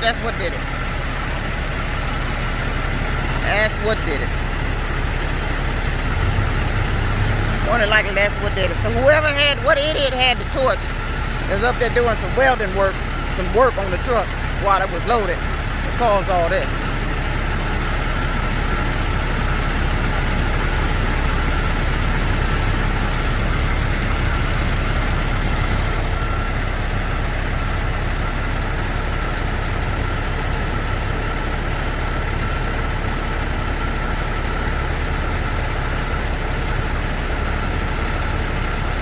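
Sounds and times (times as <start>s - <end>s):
thin steady whine: 0.0s - 33.4s
truck engine idling: 0.0s - 39.0s.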